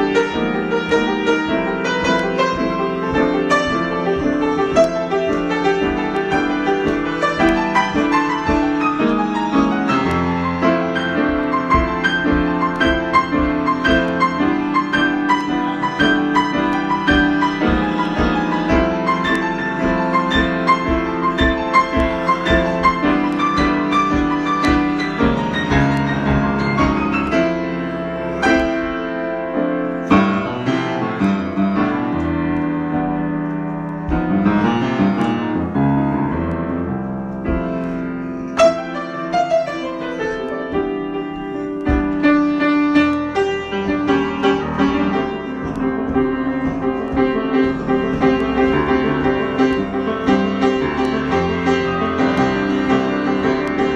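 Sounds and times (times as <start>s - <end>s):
solo piano playing: 0.0s - 53.9s.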